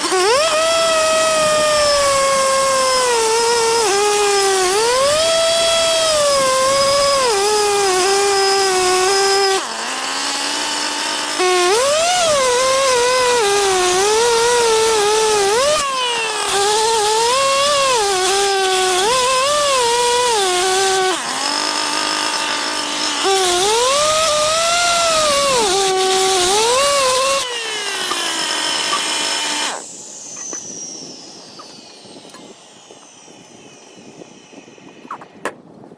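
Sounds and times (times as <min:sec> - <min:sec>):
power tool motor whining: 0:00.0 - 0:35.5.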